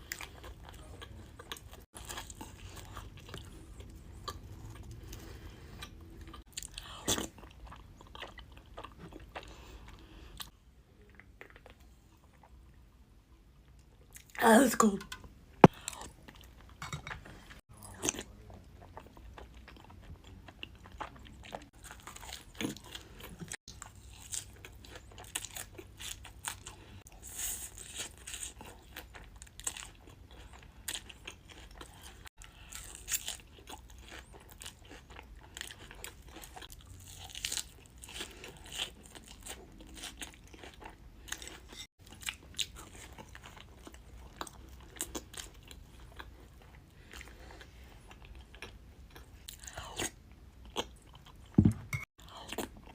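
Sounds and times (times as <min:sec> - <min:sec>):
crunchy eating and chewing: 0:00.0 - 0:12.8, 0:15.6 - 0:51.6.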